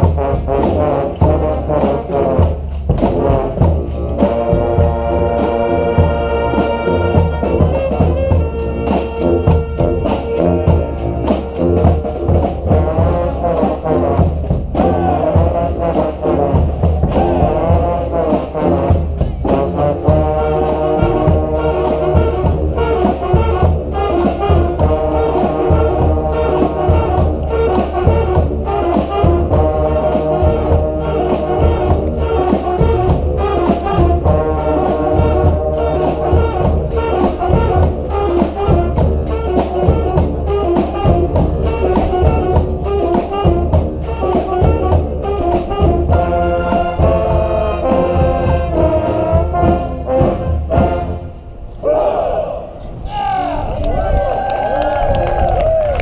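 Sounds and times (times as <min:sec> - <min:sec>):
brass band playing: 0:00.0 - 0:52.8.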